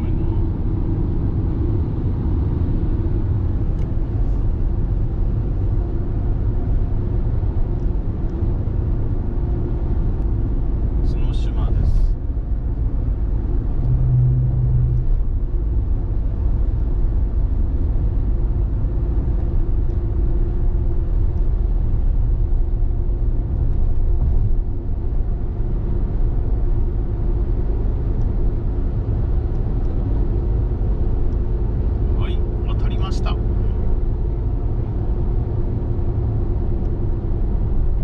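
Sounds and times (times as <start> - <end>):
road and engine rumble: 0.0 - 38.0.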